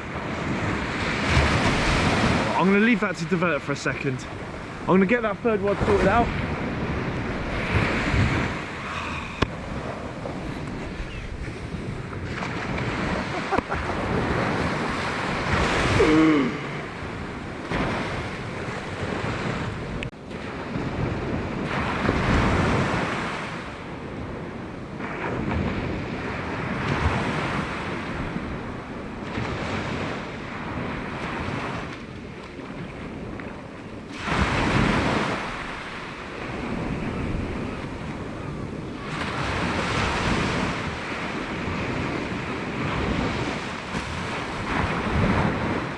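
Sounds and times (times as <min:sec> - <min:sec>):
sea waves breaking on beach: 0:00.0 - 0:45.9
wind buffeting microphone: 0:00.0 - 0:45.9.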